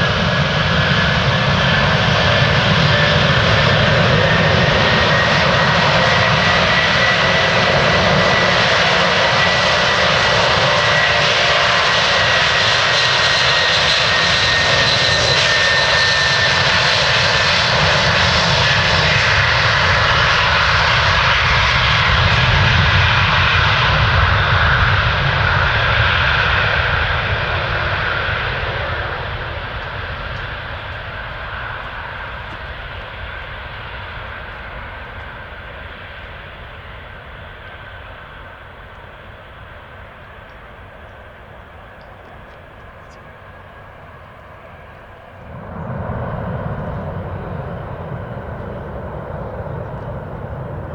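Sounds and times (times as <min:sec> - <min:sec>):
jet engines with high whine: 0:00.0 - 0:50.9.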